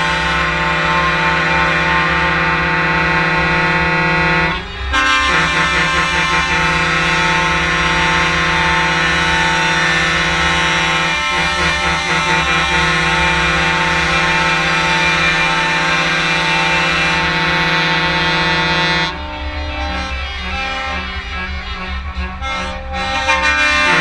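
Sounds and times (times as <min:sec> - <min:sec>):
truck air horns chord: 0:00.0 - 0:24.0.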